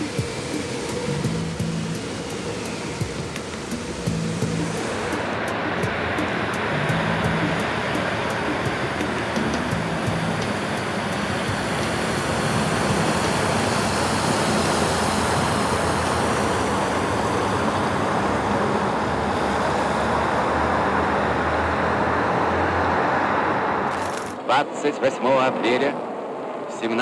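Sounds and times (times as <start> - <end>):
motorcade engine and road noise: 0.0 - 27.0.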